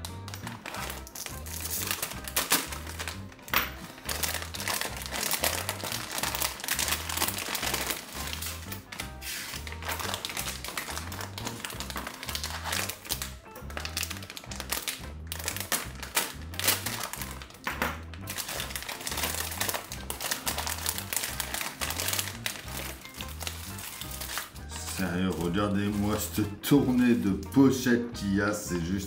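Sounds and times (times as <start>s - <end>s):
plastic bags crinkling: 0.0s - 27.5s
background music with bass line: 0.0s - 29.0s.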